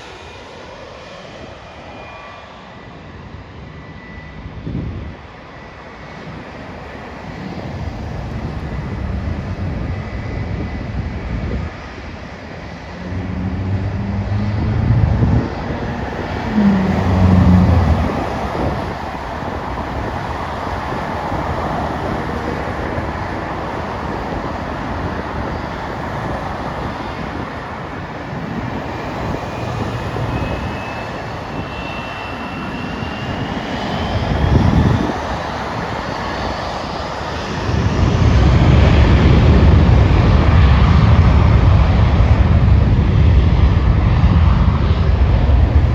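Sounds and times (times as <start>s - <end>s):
jet airliner engine rush: 0.0s - 45.9s
wind buffeting microphone: 3.6s - 45.9s.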